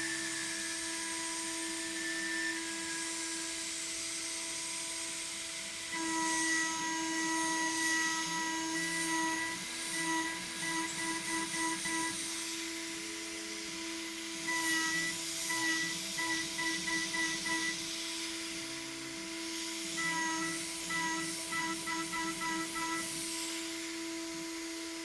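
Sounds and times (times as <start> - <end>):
router spindle whine: 0.0 - 25.0.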